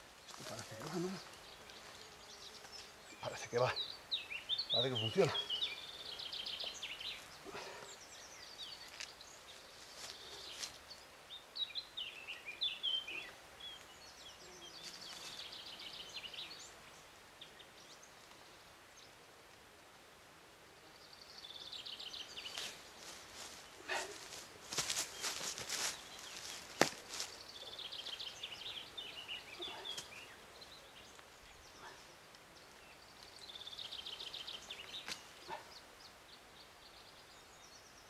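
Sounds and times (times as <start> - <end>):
songbirds trilling and chirping: 0.0 - 38.0.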